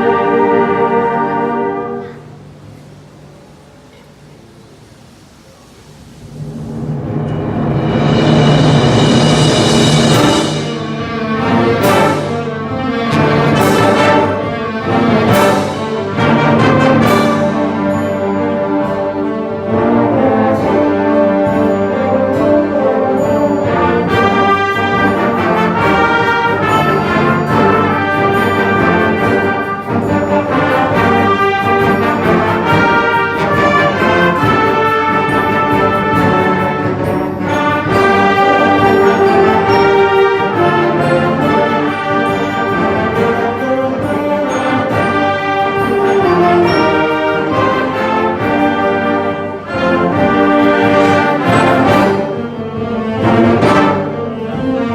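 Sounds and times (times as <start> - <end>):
wind band playing loud chords: 0.0 - 3.7, 5.2 - 54.9
sharp percussion strikes: 5.2 - 54.9.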